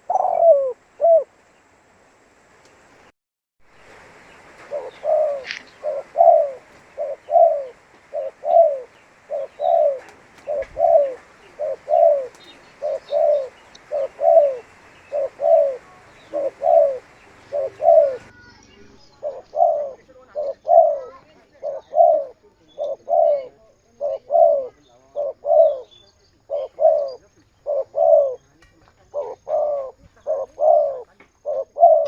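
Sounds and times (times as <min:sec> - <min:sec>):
dove cooing: 0:00.0 - 0:01.4, 0:03.8 - 0:32.0.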